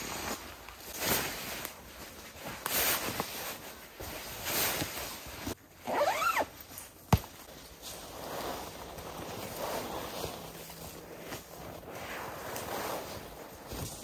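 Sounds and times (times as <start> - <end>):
fabric swishing and rustling: 0.0 - 14.0.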